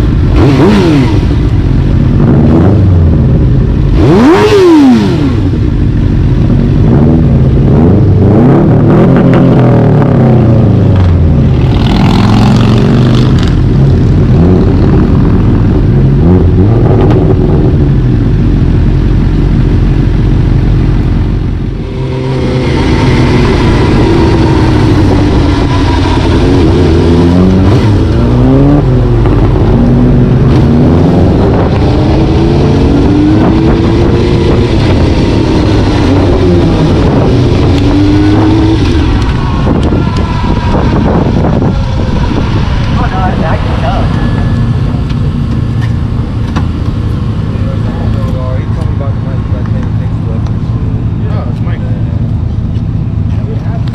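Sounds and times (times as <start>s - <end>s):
vehicle engine accelerating: 0.0s - 53.9s.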